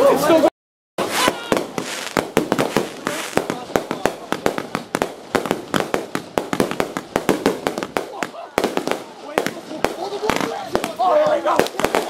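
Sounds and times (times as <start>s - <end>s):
fireworks barrage: 0.0s - 12.0s.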